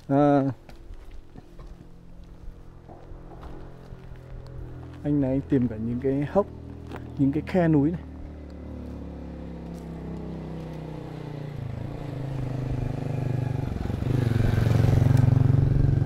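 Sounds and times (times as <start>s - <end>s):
motorbike engine running: 0.7s - 16.0s.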